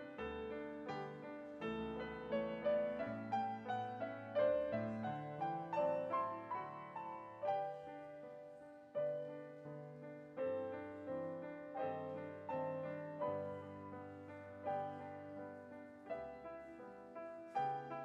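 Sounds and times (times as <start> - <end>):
gentle piano piece: 0.0 - 18.0.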